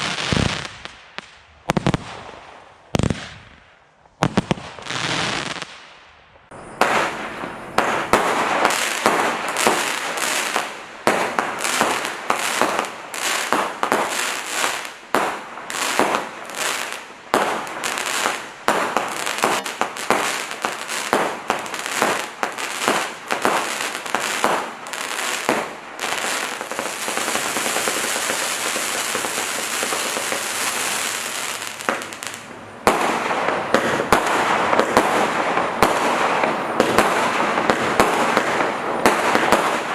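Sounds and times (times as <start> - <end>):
fireworks crackling: 0.0 - 39.9
fireworks shots and bursts: 0.0 - 39.9.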